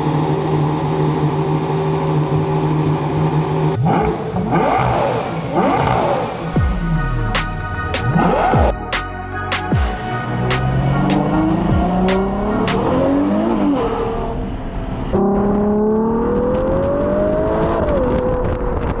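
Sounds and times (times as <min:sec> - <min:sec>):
car engine revving hard: 0:00.0 - 0:06.8, 0:08.0 - 0:08.7, 0:10.6 - 0:18.9.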